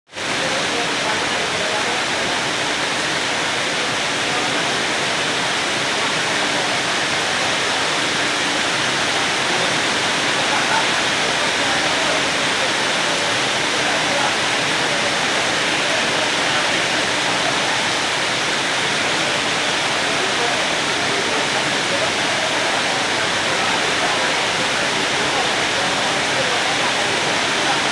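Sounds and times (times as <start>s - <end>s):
rain falling steadily: 0.1s - 27.9s.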